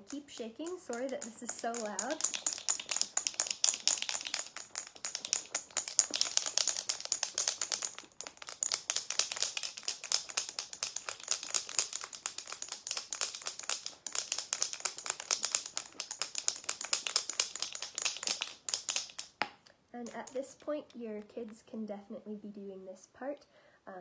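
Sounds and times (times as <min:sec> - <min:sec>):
glass marbles rattling in a jar: 0:00.0 - 0:19.4, 0:20.0 - 0:20.6.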